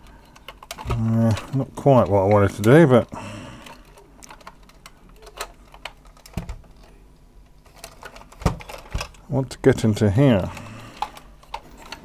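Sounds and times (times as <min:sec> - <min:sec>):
plastic toy parts clicking: 0:00.0 - 0:09.2, 0:10.9 - 0:12.0.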